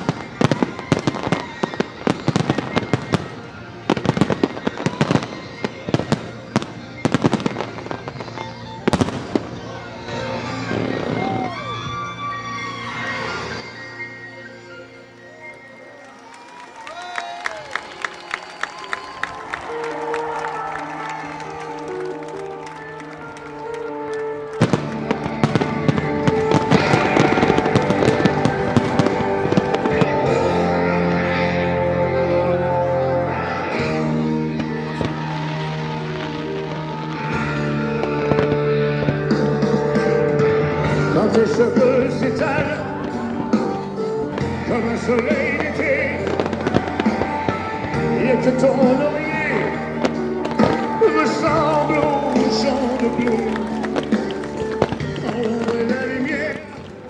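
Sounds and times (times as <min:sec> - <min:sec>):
fireworks bursting with bangs and crackles: 0:00.0 - 0:15.7, 0:20.2 - 0:57.0
music playing: 0:00.0 - 0:57.0.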